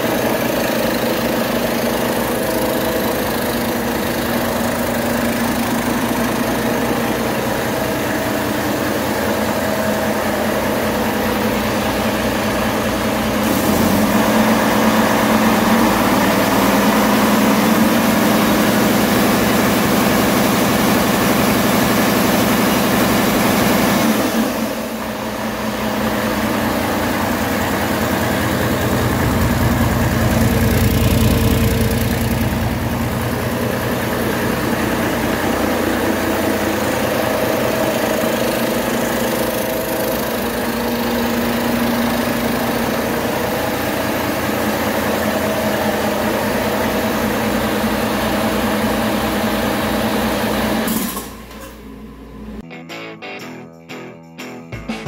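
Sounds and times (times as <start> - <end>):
diesel engine running steadily: 0.0 - 52.6.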